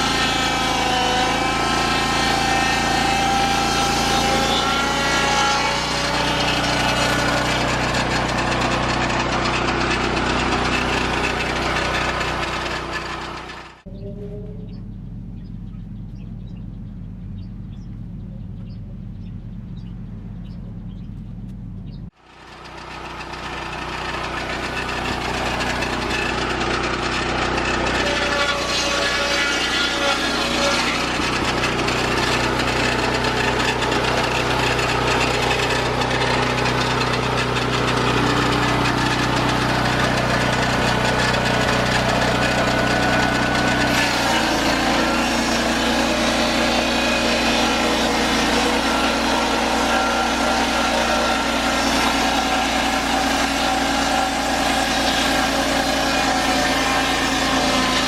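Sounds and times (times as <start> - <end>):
circular blade sawing wood: 0.0 - 14.6, 22.1 - 58.0
sawmill engine running: 0.0 - 21.5, 22.1 - 58.0.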